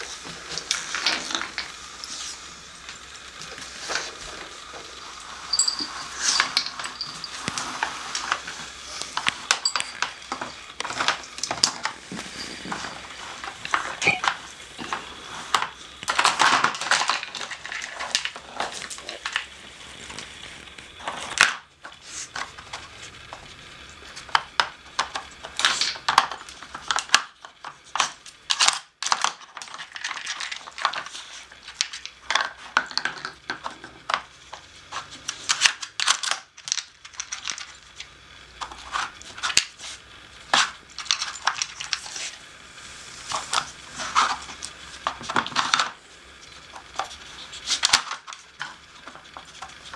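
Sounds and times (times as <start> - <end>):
plastic puzzle pieces clattering: 0.0 - 49.9.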